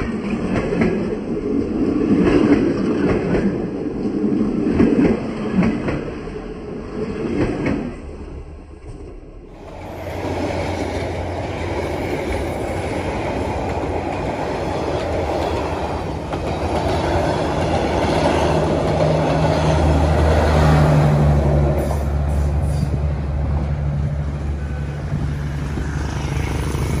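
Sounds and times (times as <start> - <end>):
train wheels clattering on rails: 0.0 - 4.0, 4.6 - 6.3, 9.6 - 27.0.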